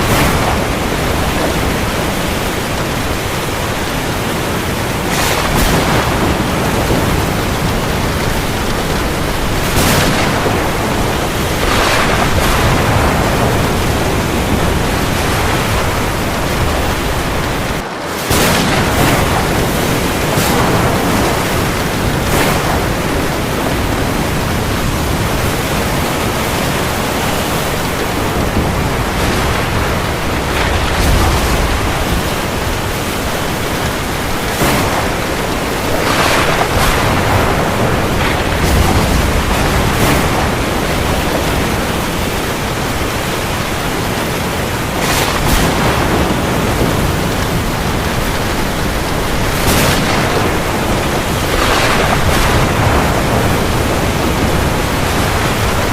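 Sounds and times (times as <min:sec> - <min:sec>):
heavy rain hiss: 0:00.0 - 0:55.9.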